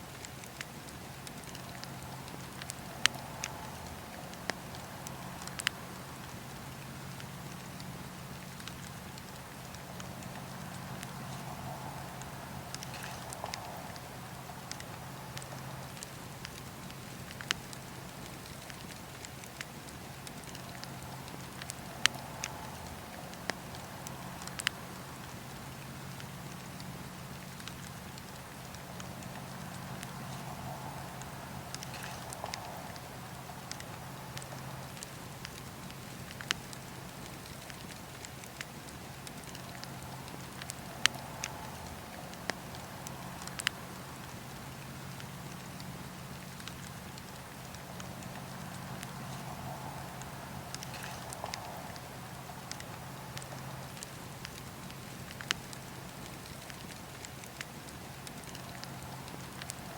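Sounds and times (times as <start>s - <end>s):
burning wood crackling and popping: 0.0s - 59.9s
campfire hissing: 0.0s - 59.9s
low rumble of flames: 0.0s - 59.9s.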